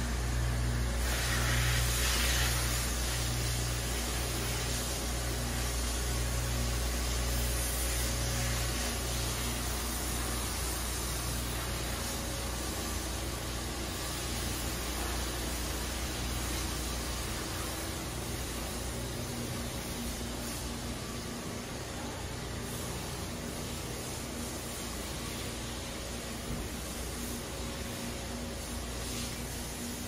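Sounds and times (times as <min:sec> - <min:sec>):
pumps and motors humming: 0:00.0 - 0:30.0
water spray hiss: 0:00.5 - 0:30.0.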